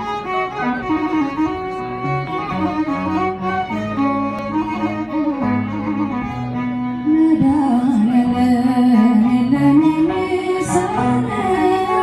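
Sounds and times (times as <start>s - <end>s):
bowed string hymn melody: 0.0s - 12.0s.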